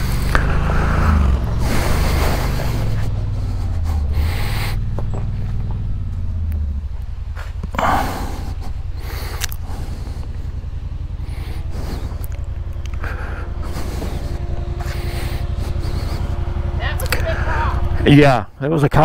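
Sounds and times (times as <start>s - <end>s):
atv engine idling: 0.0s - 19.0s.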